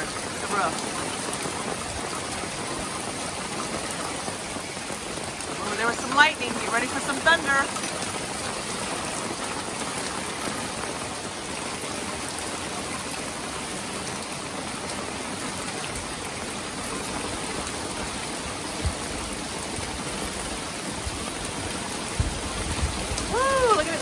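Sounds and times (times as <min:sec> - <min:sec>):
heavy rain on roof and trees: 0:00.0 - 0:24.0.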